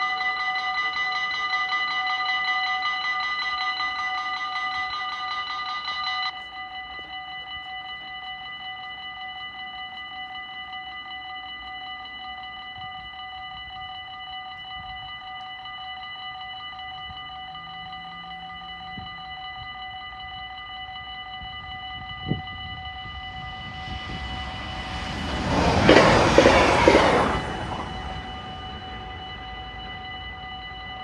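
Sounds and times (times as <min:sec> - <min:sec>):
level crossing warning bells: 0:00.0 - 0:31.0.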